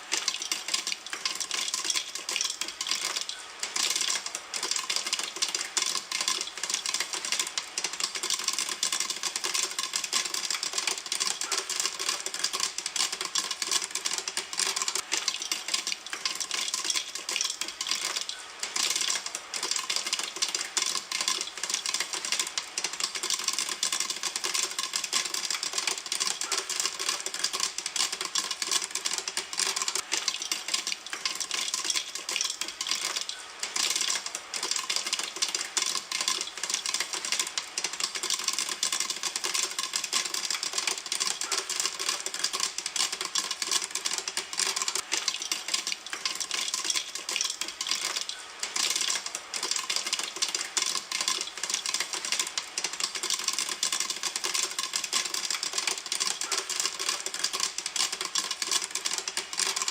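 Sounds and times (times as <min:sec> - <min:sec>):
popcorn popping in a pan: 0:00.0 - 0:59.9.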